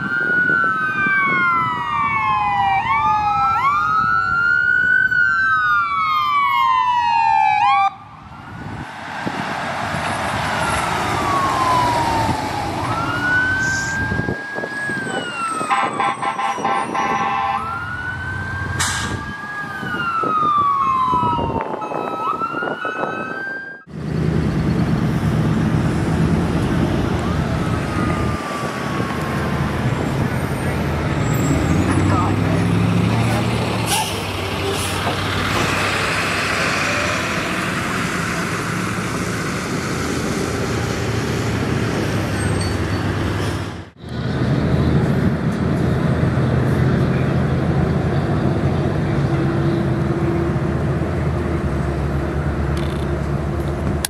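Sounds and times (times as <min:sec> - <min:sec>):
emergency sirens wailing: 0:00.0 - 0:43.3
road traffic passing: 0:00.0 - 0:54.0.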